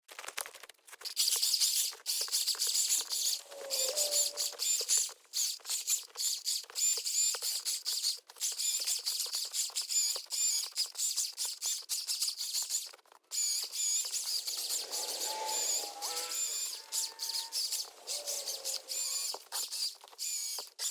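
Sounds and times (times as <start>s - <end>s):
chainsaw cutting wood: 1.1s - 20.9s.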